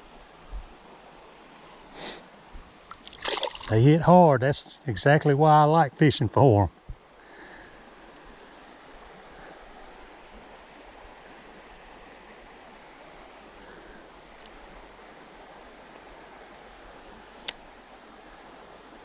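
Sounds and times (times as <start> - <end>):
creek water running over shallows: 0.0 - 19.0.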